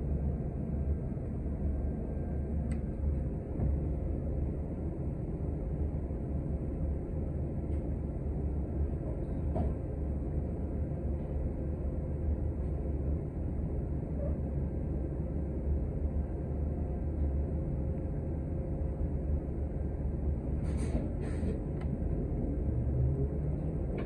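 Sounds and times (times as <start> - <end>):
faint steady whine: 0.0 - 24.0
low rumble inside bus: 0.0 - 24.0.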